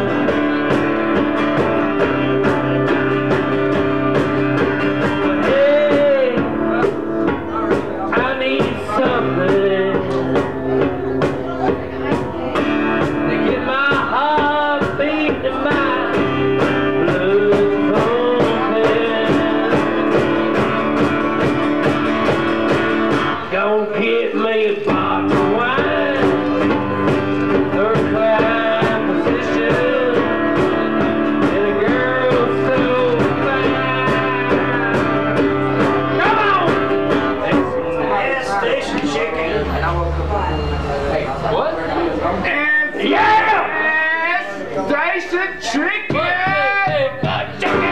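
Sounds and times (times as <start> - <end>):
hand drum beat: 0.0 - 23.5, 24.9 - 37.9, 46.1 - 47.9
strummed acoustic guitar: 0.0 - 45.0, 45.6 - 47.9.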